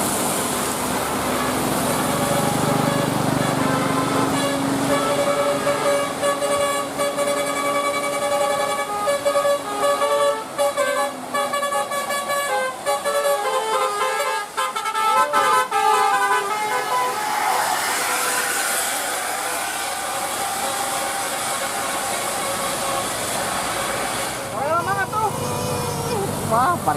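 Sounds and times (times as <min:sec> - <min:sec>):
musical air horns: 0:01.1 - 0:26.2.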